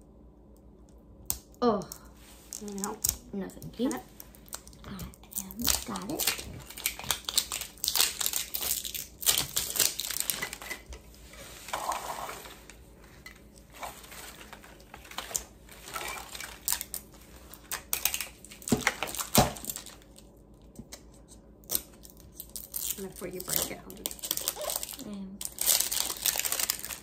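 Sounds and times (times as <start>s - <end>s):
plastic wrapping crinkling: 2.3s - 20.8s, 21.7s - 27.0s.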